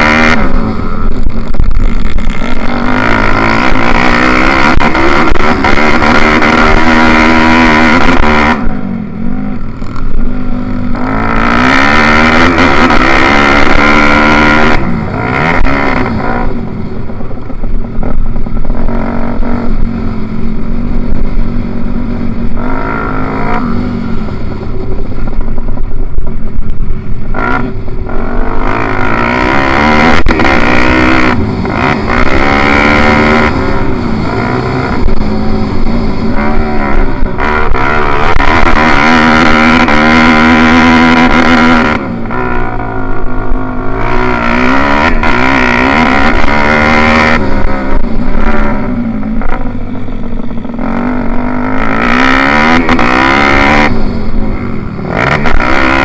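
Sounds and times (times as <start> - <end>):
pit bike engine revving: 0.0 - 25.7, 27.2 - 56.0.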